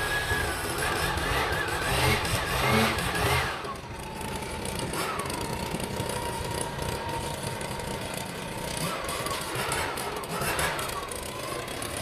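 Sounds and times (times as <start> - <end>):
small engine running and idling: 0.0 - 12.0.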